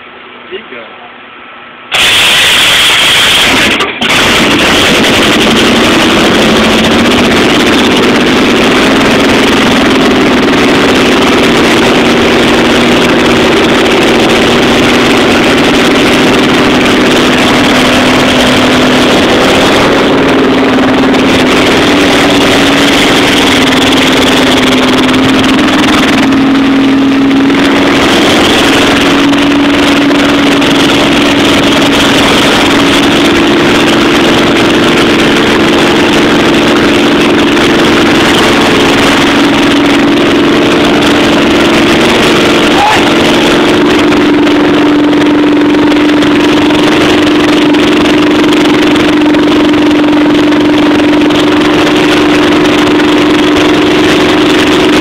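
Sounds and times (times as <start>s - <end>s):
loud engine running: 0.0s - 55.0s.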